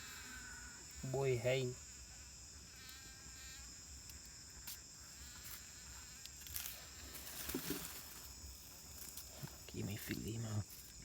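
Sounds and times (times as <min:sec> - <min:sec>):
chorus of insects buzzing: 0:00.0 - 0:11.0
insect buzzing past close: 0:00.0 - 0:11.0.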